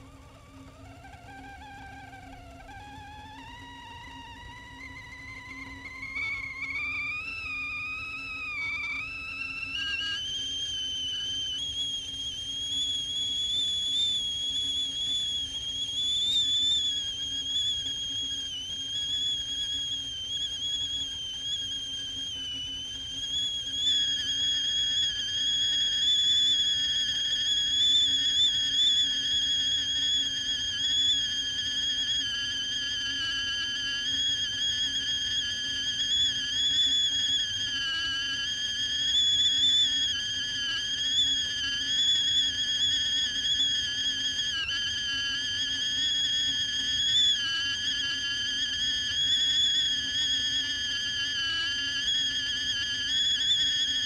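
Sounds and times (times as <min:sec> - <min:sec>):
tea kettle whistling: 0:00.0 - 0:54.0.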